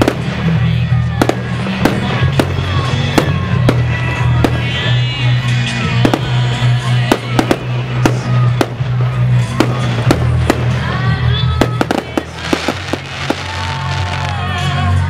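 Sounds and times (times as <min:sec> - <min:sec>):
fireworks bangs and cracks: 0:00.0 - 0:15.0
loud music with heavy bass: 0:00.0 - 0:15.0.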